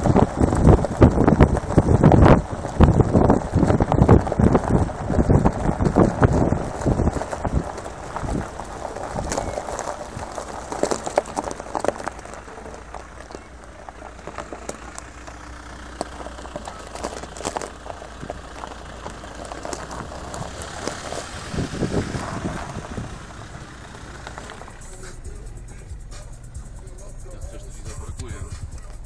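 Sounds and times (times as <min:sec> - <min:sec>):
low engine hum: 0:00.0 - 0:29.0
tires crunching gravel: 0:00.0 - 0:29.0.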